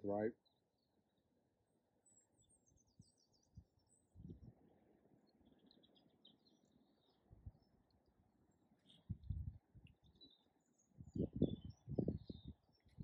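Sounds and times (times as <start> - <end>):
small birds chirping: 0.0 - 13.0
wind: 2.0 - 13.0.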